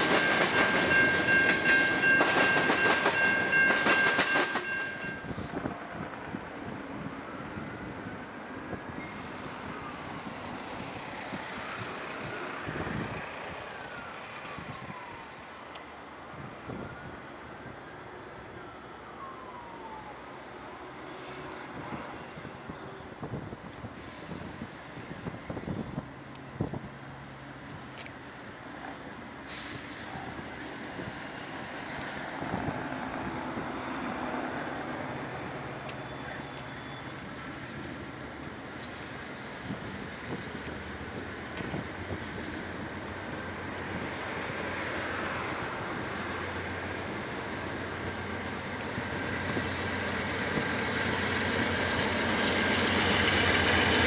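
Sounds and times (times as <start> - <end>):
diesel locomotives rumbling: 0.0 - 20.0, 20.8 - 54.0.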